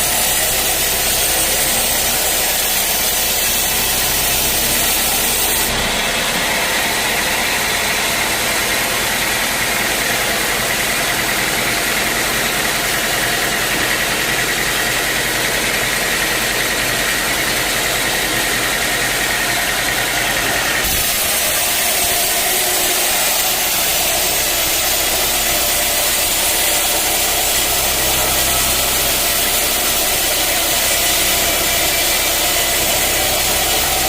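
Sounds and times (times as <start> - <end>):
high machine whine: 0.0 - 34.0
sawmill machinery running: 0.0 - 34.0.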